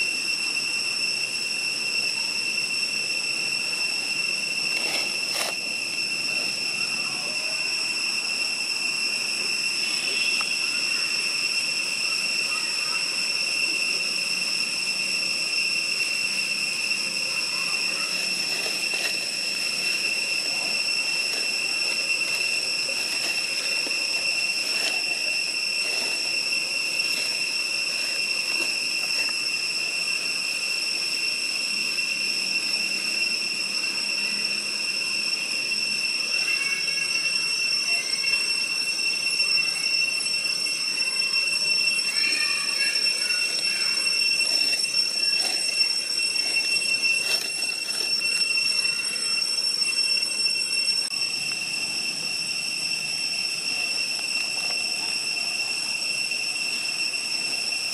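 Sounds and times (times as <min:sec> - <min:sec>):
cicadas droning: 0:00.0 - 0:57.9
faint chirps: 0:02.0 - 0:57.9.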